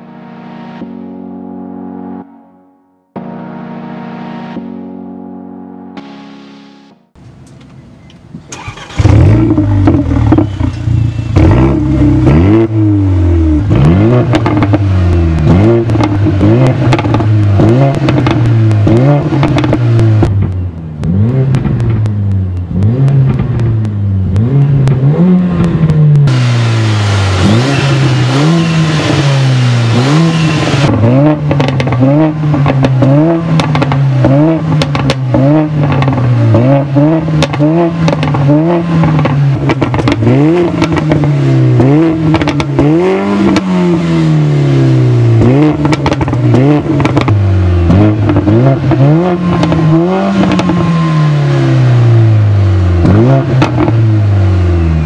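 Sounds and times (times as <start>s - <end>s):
exhaust crackles: 8.5s - 54.9s
car engine revving: 8.5s - 55.0s.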